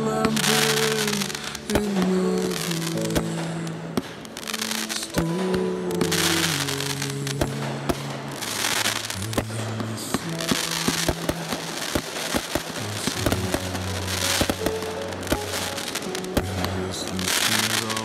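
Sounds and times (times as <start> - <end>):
fireworks bangs: 0.0 - 18.0
fireworks hissing: 0.0 - 18.0
song with held low notes: 0.0 - 18.0.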